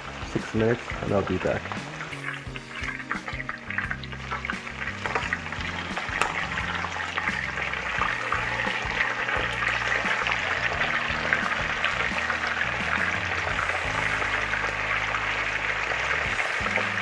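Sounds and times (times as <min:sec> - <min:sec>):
chicken deep-frying in oil: 0:00.0 - 0:17.0.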